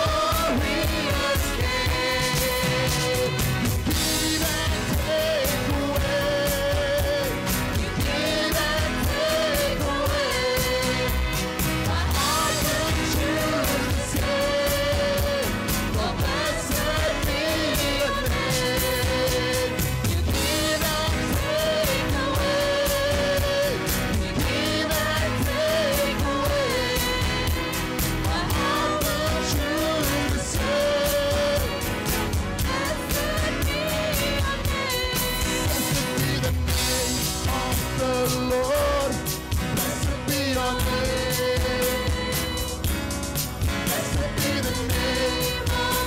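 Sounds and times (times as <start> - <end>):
worship band playing: 0.0 - 46.0.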